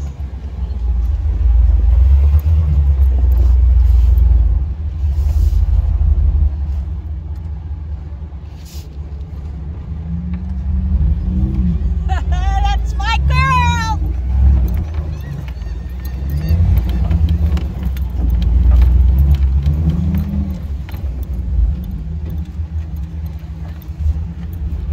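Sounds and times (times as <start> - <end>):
engine rumbling under load: 0.0 - 24.9.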